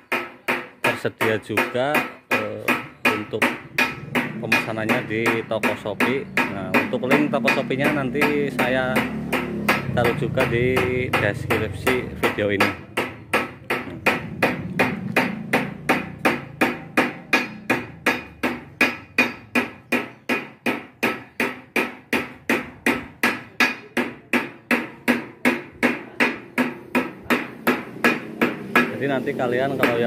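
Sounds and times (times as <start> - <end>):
hammer blows on sheet metal: 0.0 - 30.0.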